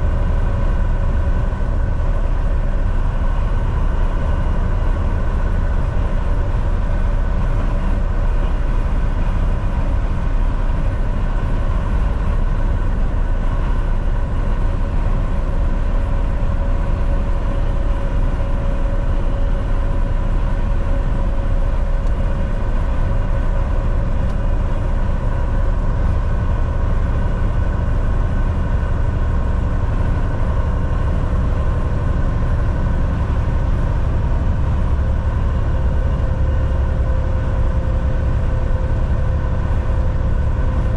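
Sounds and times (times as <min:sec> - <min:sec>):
road noise: 0:00.0 - 0:40.9
truck engine drone: 0:00.0 - 0:40.9.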